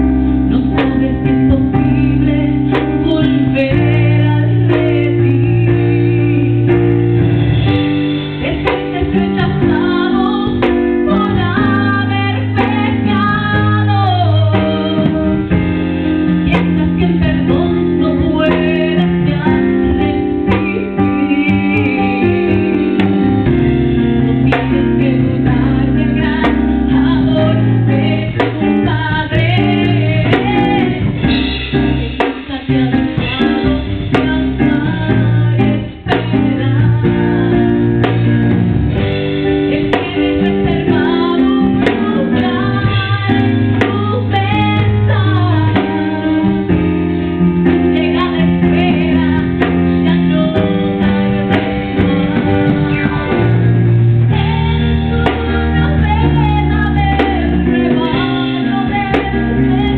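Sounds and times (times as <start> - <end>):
instrumental accompaniment: 0.0 - 59.9
woman singing: 0.0 - 59.9.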